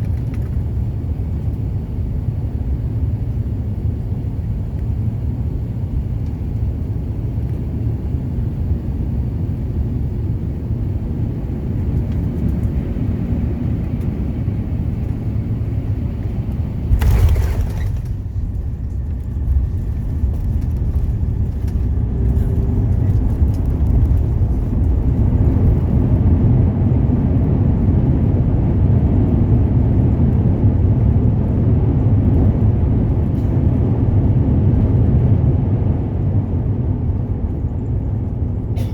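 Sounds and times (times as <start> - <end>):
jet airliner cabin rumble: 0.0 - 38.9.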